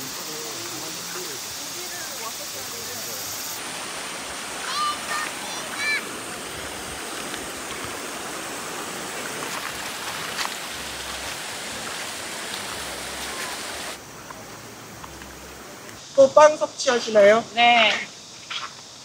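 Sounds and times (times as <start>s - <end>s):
flowing stream rushing: 0.0s - 16.3s.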